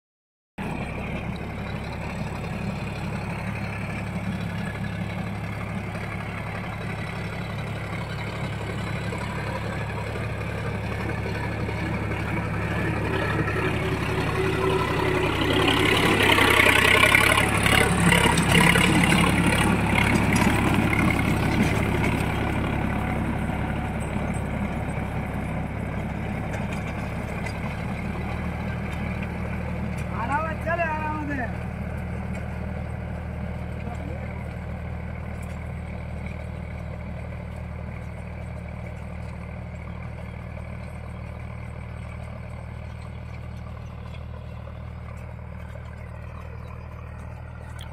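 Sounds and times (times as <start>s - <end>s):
tractor diesel engine running: 0.6s - 47.9s.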